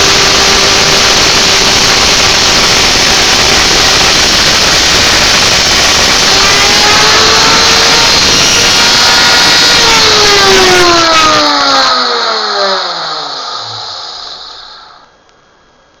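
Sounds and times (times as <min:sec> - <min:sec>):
router spindle whine winding down: 0:00.0 - 0:15.2.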